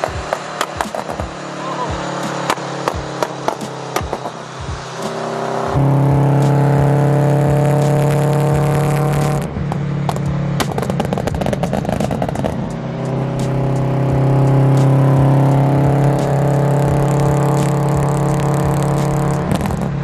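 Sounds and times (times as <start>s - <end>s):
car engine droning: 0.0s - 20.0s
exhaust crackling burble: 0.0s - 20.0s.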